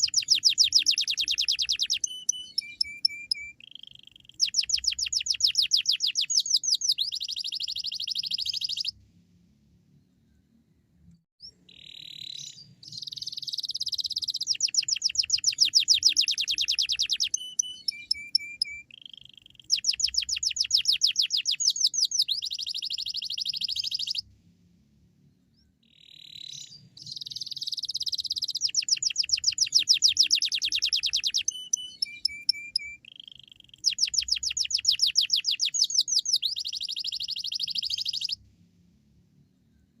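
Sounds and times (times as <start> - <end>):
canary singing trills: 0.0 - 9.0, 11.4 - 24.2, 25.8 - 38.4.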